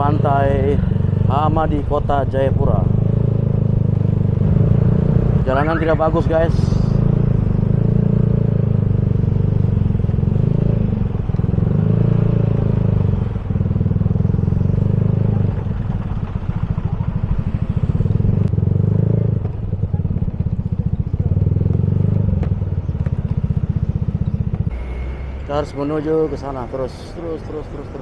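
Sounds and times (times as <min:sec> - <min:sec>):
motorcycle engine running: 0:00.0 - 0:26.2.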